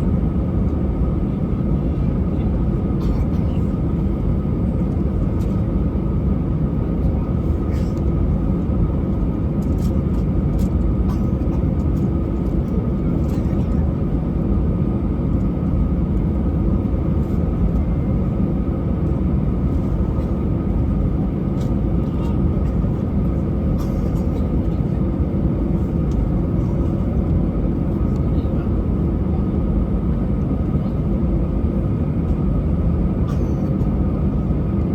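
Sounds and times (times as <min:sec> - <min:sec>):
constant hum: 0:00.0 - 0:34.9
jet engine and airflow rumble: 0:00.0 - 0:34.9.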